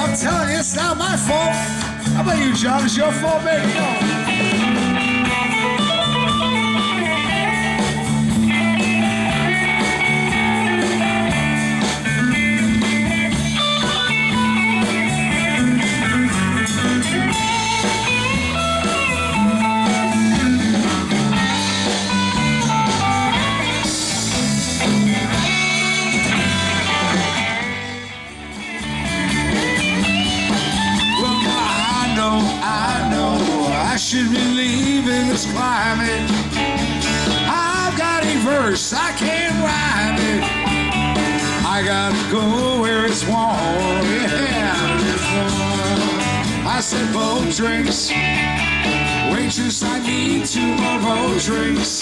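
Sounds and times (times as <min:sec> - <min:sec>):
electric guitar: 0:00.0 - 0:52.0
live rock band playing: 0:00.0 - 0:52.0.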